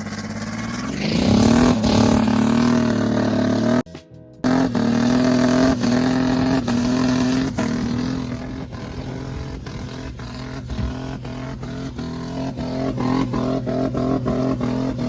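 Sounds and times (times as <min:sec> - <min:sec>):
engine at high revs: 0:00.0 - 0:15.0.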